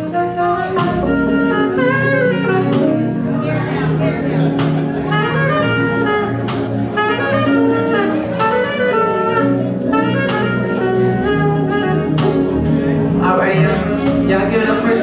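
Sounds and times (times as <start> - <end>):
drums: 0.0 - 15.0
jazz band accompaniment: 0.0 - 15.0
saxophone solo: 0.0 - 15.0.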